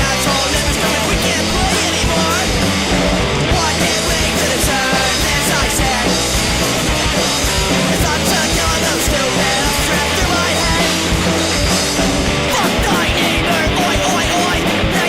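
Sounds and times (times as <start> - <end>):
drum hits: 0.0 - 15.0
punk rock band playing: 0.0 - 15.0.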